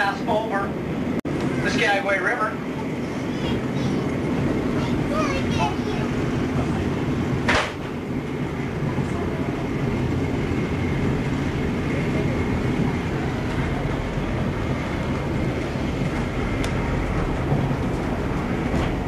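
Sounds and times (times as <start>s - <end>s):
train car rumbling over track: 0.0s - 19.0s.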